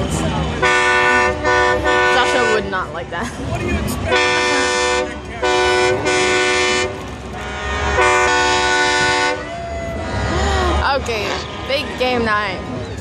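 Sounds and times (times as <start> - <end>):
loud horn blasts: 0.0 - 3.0, 4.0 - 12.8.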